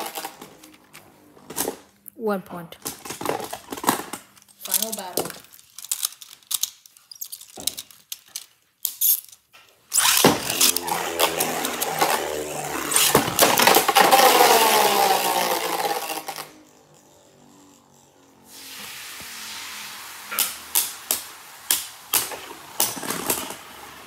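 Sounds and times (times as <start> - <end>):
spinning tops clattering and whirring: 0.0 - 1.8, 3.0 - 9.3, 10.0 - 18.5, 20.3 - 24.0.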